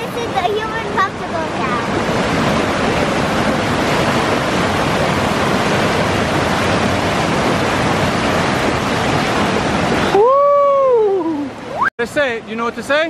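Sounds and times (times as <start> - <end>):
river water rushing over rock: 0.0 - 13.0.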